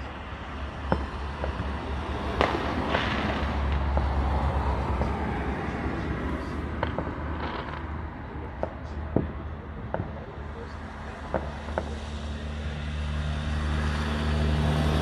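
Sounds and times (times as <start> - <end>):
fireworks bangs and crackles: 0.0 - 12.3.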